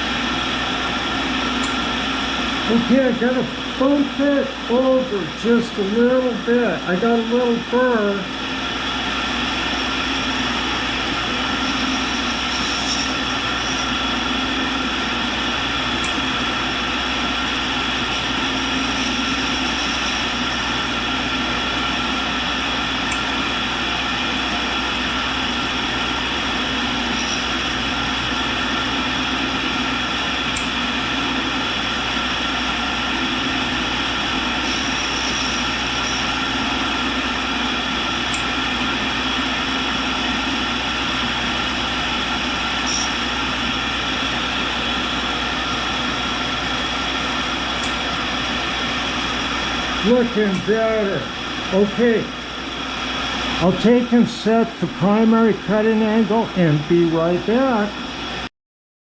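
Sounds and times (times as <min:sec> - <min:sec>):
grinder wheel grinding metal: 0:00.0 - 0:54.1.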